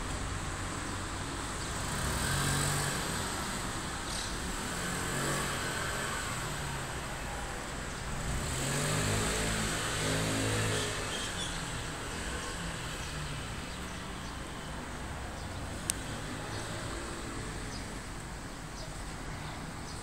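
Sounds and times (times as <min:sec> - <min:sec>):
road traffic hum: 0:00.0 - 0:20.0
vehicles passing: 0:00.0 - 0:20.0.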